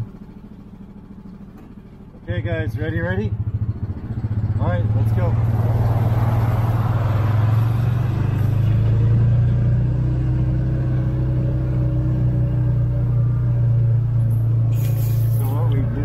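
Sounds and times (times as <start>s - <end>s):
pickup towing trailer passing: 0.8s - 16.0s.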